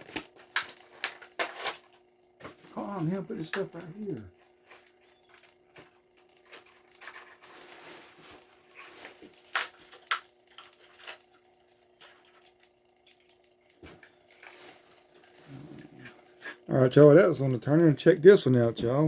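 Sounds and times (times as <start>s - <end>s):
plastic and card packaging crinkling: 0.0s - 18.4s
faint steady hum: 0.0s - 19.0s.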